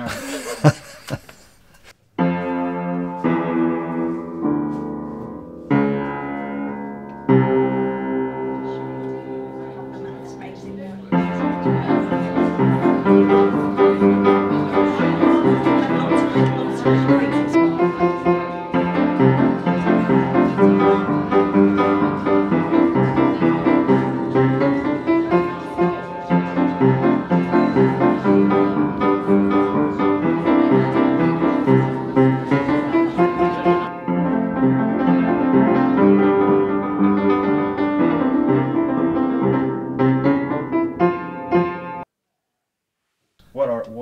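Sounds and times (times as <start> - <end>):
piano playing chords and melody: 2.1 - 42.1.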